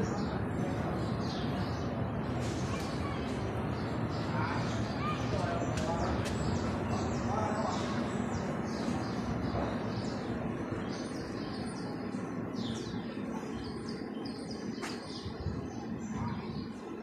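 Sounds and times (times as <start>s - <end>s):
low street hum: 0.0s - 17.0s
small birds chirping: 0.0s - 17.0s.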